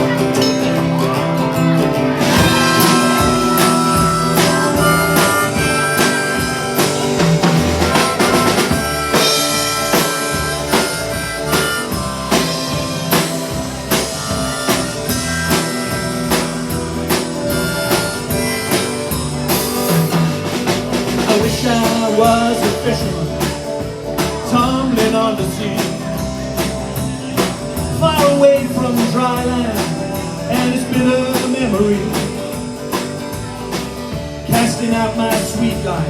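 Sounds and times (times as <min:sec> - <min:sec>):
bass: 0:00.0 - 0:36.0
drum kit: 0:00.0 - 0:36.0
held lead melody: 0:00.0 - 0:36.0
strummed guitar: 0:00.0 - 0:36.0.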